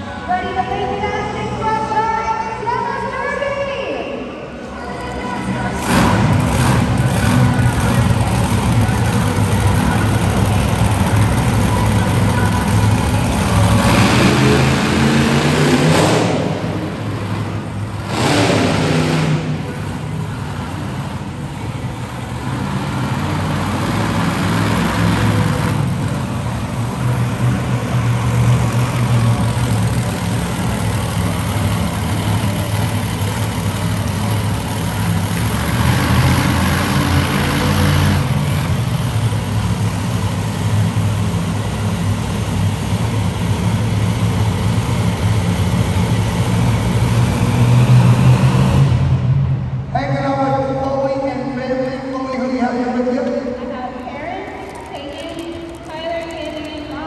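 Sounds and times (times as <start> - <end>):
monster truck engine revving: 4.8 - 53.7, 54.4 - 57.0.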